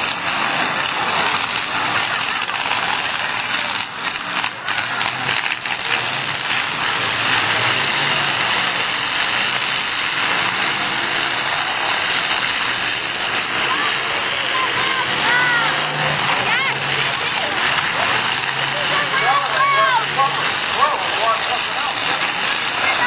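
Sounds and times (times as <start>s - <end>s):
many car engines running: 0.0s - 23.0s.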